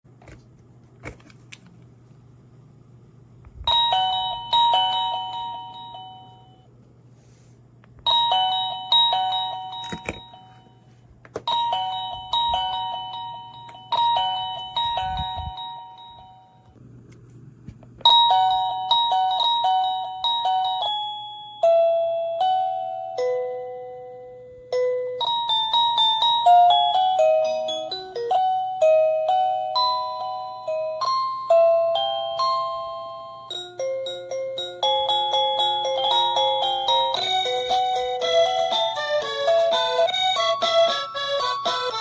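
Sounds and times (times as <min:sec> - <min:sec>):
electronic doorbell chime melody: 0:03.7 - 0:06.7, 0:08.1 - 0:16.8, 0:18.1 - 0:42.0.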